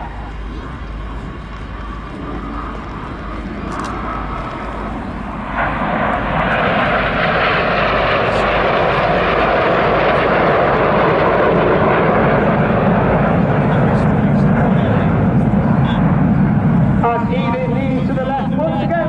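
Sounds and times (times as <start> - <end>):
jets roaring by: 0.0 - 19.0.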